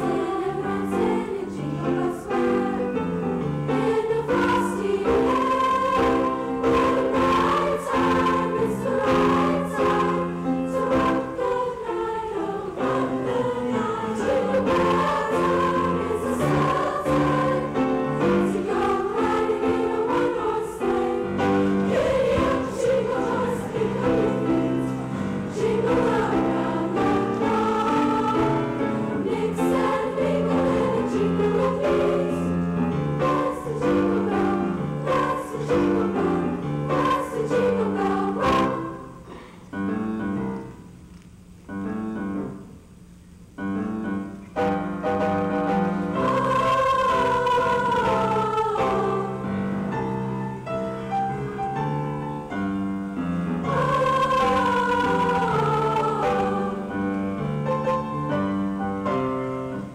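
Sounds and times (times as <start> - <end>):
piano accompaniment: 0.0 - 39.2, 43.6 - 59.9
choir singing: 0.0 - 39.4, 44.6 - 59.9.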